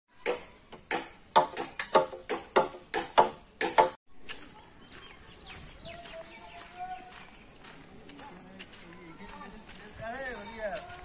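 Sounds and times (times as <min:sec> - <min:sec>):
faint outdoor background noise: 0:00.1 - 0:11.0.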